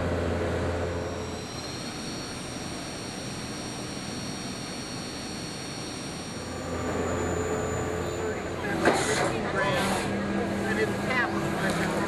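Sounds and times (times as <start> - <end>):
drilling machine rushing noise: 0.0 - 12.0
thin high whine: 0.0 - 12.0.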